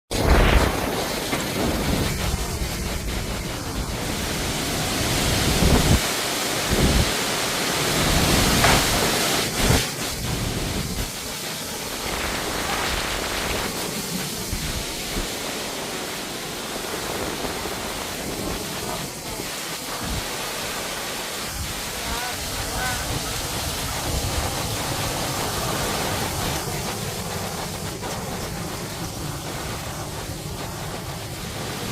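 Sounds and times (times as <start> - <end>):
heavy rain: 0.1 - 31.9
strong storm wind: 0.1 - 31.9
wind buffeting microphone: 0.1 - 31.9.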